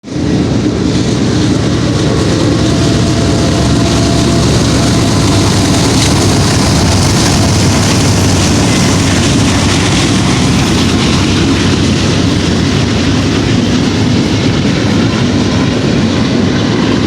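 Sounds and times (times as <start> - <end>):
freight train passing: 0.0 - 17.0.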